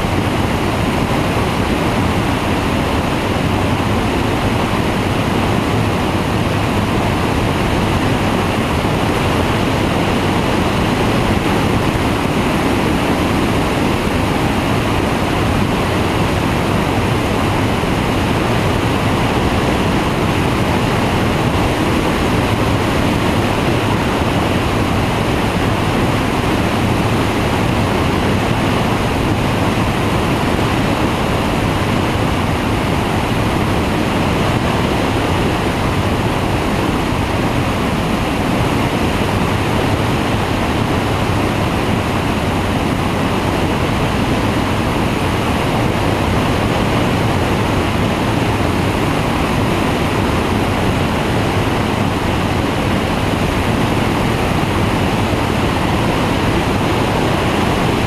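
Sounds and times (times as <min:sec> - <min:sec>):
engine and propeller running: 0:00.0 - 0:58.0
wind rushing over microphone: 0:00.0 - 0:58.0.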